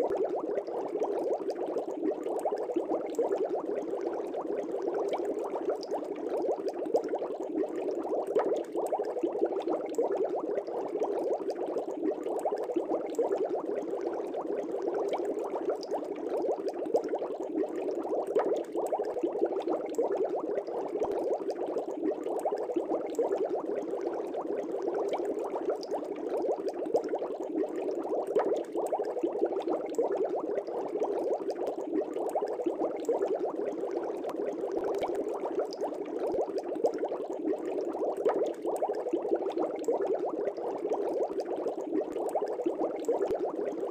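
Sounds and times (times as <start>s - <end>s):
aquarium air bubbling: 0.0s - 43.9s.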